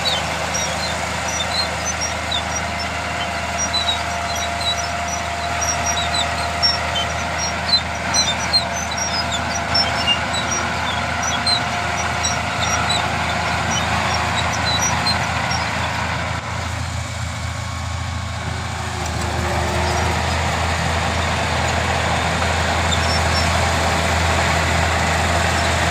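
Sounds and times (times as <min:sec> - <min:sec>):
diesel engine under load: 0:00.0 - 0:25.9.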